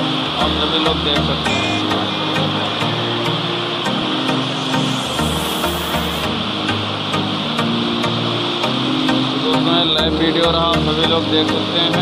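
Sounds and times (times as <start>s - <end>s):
steady hiss: 0.0s - 9.8s
background music with low notes: 0.0s - 12.0s.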